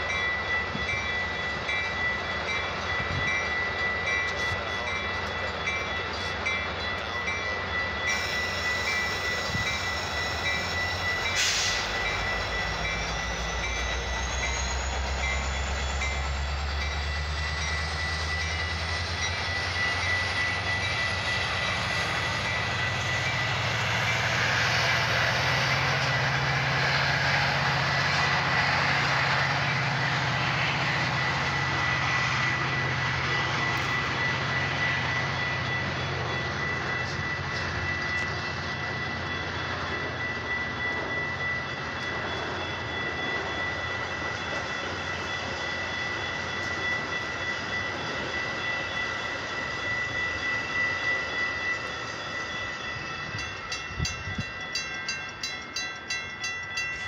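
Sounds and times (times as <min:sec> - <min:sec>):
crossing bell dinging: 0:00.0 - 0:57.0
steady high tone: 0:00.0 - 0:57.0
train cars rumbling past: 0:00.0 - 0:57.0.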